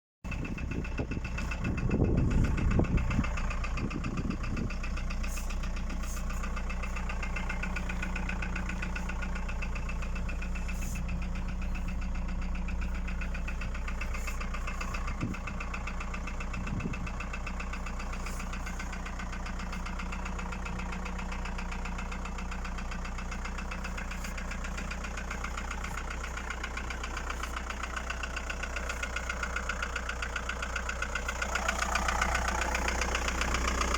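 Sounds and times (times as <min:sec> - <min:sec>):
diesel engine idling with knocking: 0:00.2 - 0:33.9.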